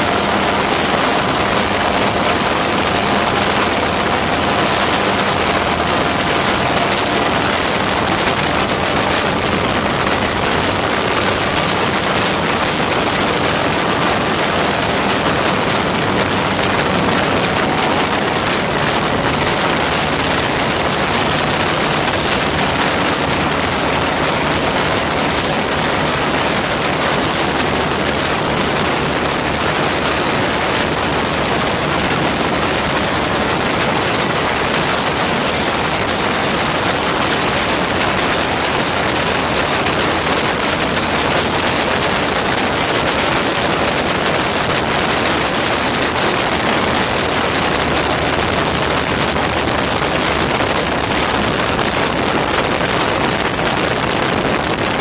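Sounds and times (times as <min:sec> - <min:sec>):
two-stroke engine and propeller: 0:00.0 - 0:55.0
wind rushing on microphone: 0:00.0 - 0:55.0.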